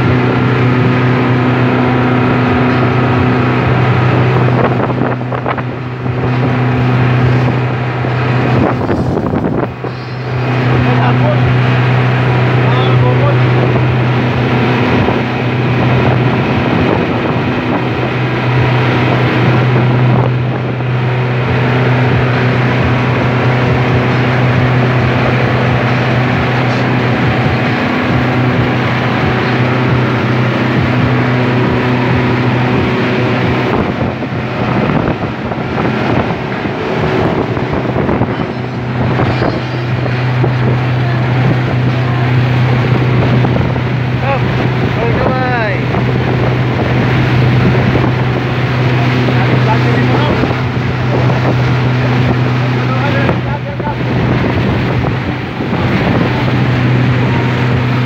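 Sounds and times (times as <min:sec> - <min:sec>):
motorboat engine drone: 0:00.0 - 0:58.0
water rushing: 0:00.0 - 0:58.0
wind noise on microphone: 0:00.0 - 0:58.0.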